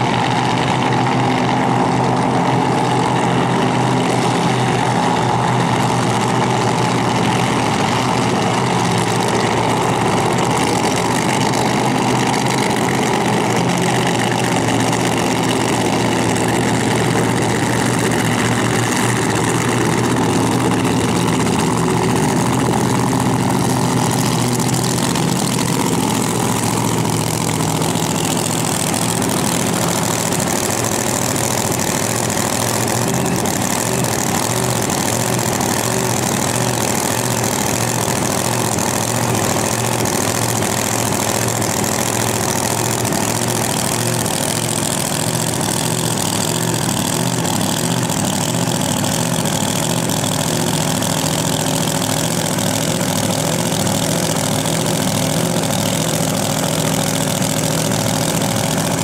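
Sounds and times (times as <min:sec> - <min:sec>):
car engine idling loudly: 0:00.0 - 0:59.0.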